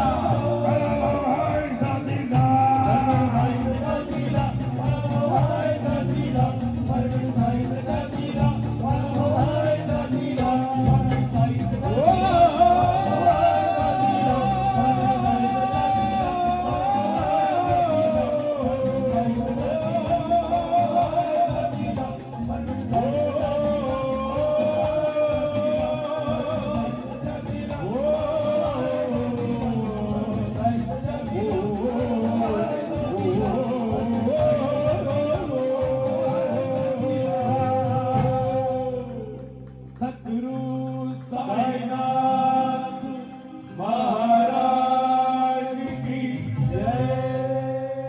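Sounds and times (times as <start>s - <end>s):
high metallic beat: 0.0s - 38.5s
man singing devotional song: 0.0s - 48.0s.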